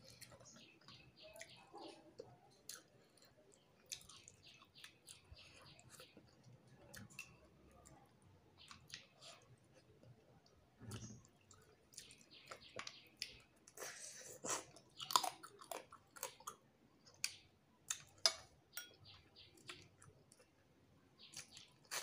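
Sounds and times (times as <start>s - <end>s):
person chewing food: 0.0s - 20.6s, 21.2s - 22.0s.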